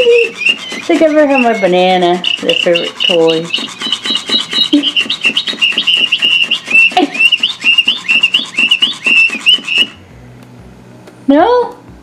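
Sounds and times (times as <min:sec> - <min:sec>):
high electronic chirps: 0:00.0 - 0:10.0
toy motor clicking wings: 0:00.0 - 0:10.0.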